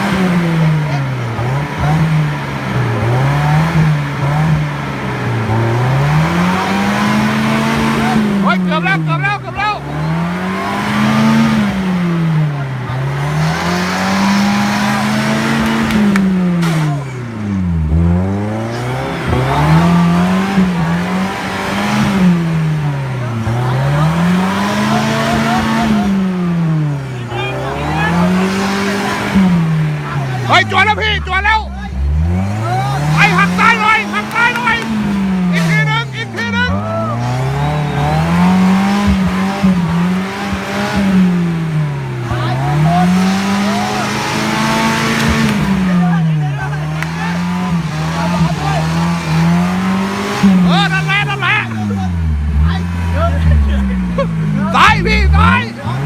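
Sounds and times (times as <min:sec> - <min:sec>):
engine revving hard: 0:00.0 - 0:56.0
tyres spinning rushing noise: 0:00.0 - 0:56.0.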